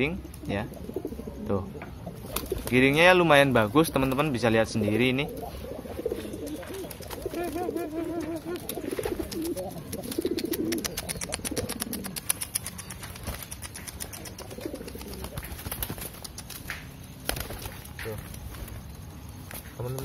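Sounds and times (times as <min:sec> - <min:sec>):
pigeons cooing: 0:00.0 - 0:18.4.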